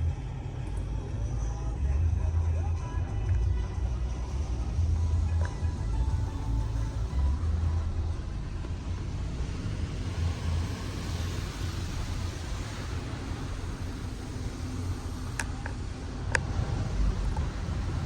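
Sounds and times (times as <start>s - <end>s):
car wash hiss and rumble: 0.0s - 18.0s.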